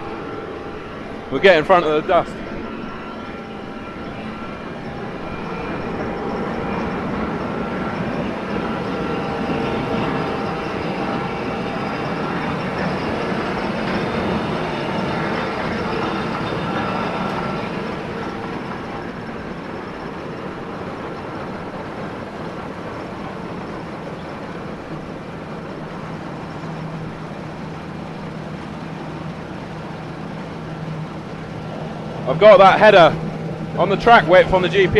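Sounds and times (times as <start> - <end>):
combine harvester running: 0.0 - 34.9.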